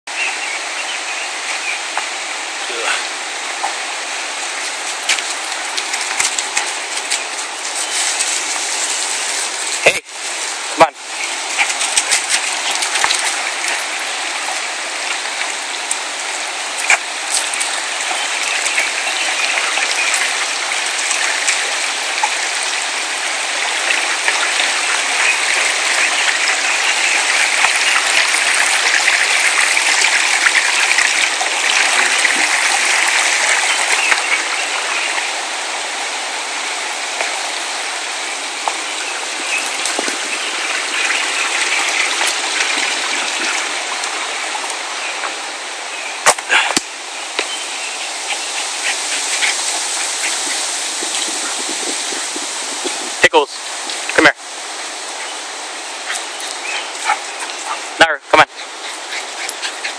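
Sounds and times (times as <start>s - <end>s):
stream rushing over rocks: 0.1s - 59.9s.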